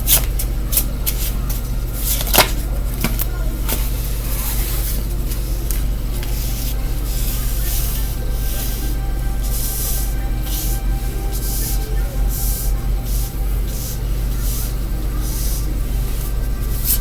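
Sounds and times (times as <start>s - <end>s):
cards rustling while shuffled: 0.1s - 17.0s.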